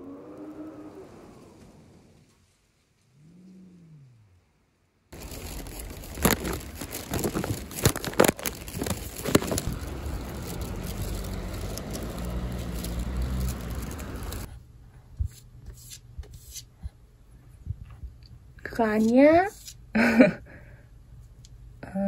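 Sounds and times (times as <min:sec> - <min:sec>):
low rumble of street noise: 0:00.0 - 0:22.0.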